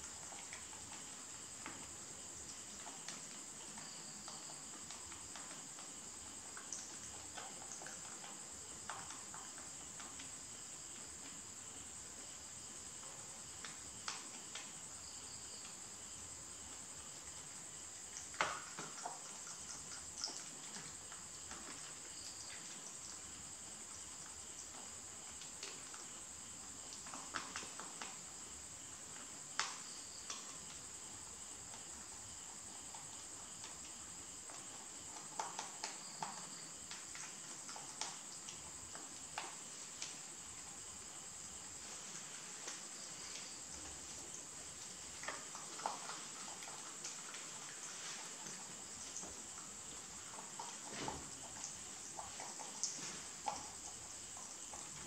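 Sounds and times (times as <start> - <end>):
rabbits clicking on tiled floor: 0.0 - 11.8, 17.2 - 55.0.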